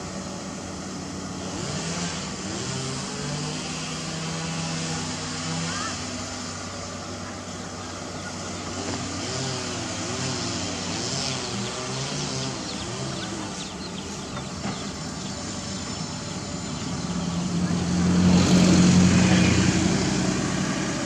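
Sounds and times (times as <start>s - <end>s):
steady engine noise: 0.0s - 21.0s.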